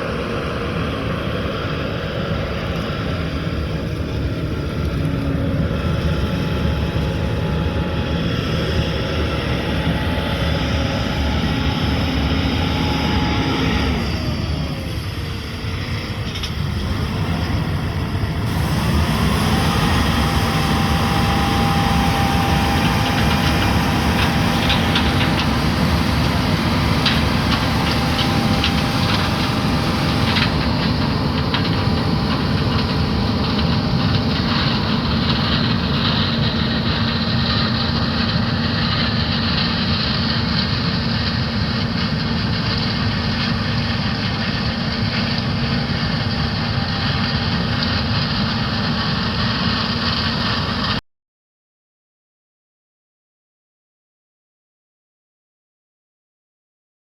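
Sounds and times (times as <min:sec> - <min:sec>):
diesel machinery running: 0:00.0 - 0:51.0
steady whine: 0:00.0 - 0:51.0.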